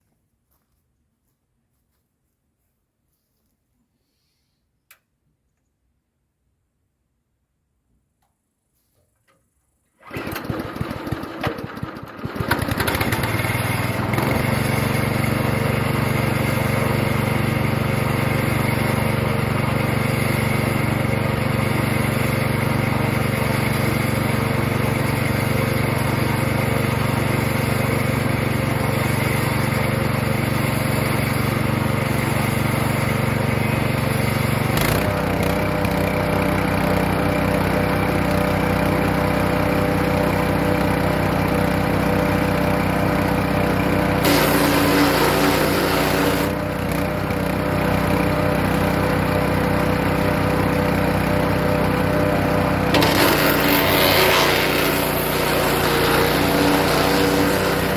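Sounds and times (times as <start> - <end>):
wood chipper engine running: 10.0 - 57.9.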